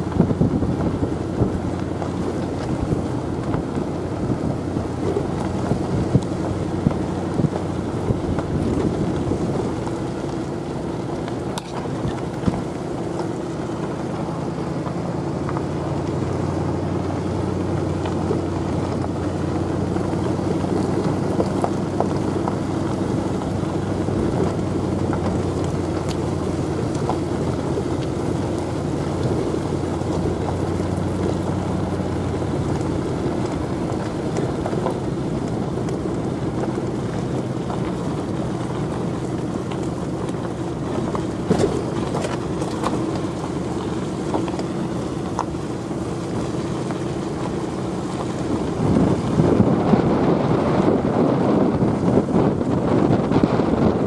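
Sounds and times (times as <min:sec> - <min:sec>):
truck engine hum: 0:00.0 - 0:54.0
tyres rumbling on gravel: 0:00.0 - 0:54.0.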